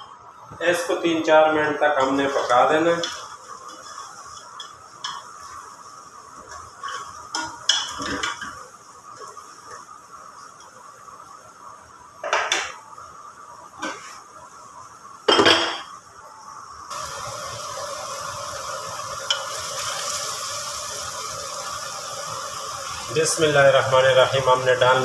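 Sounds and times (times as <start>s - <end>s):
masala sizzling in oil: 0.0s - 25.0s.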